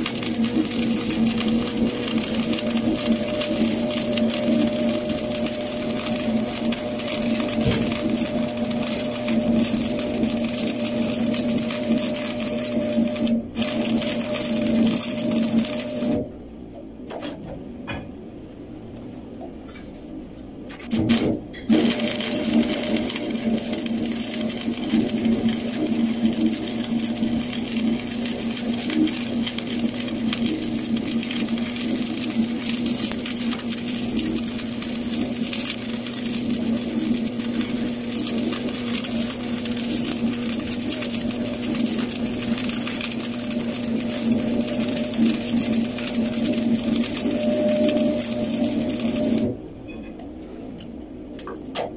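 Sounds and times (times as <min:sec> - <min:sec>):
welding arc crackling and buzzing: 0:00.0 - 0:16.7, 0:19.7 - 0:51.9.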